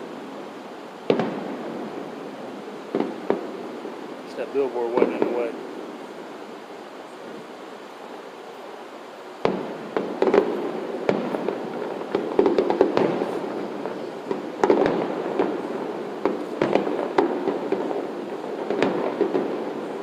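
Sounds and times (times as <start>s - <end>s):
low background noise: 0.0s - 20.0s
fireworks booming: 0.9s - 6.5s, 9.3s - 20.0s.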